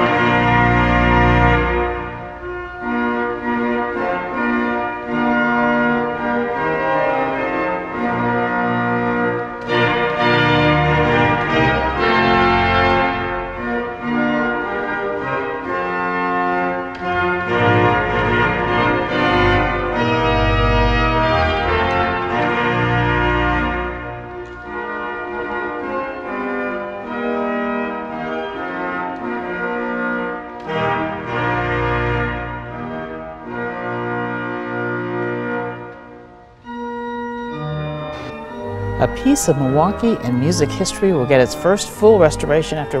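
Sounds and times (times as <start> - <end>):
pipe organ playing chords: 0.0 - 43.0.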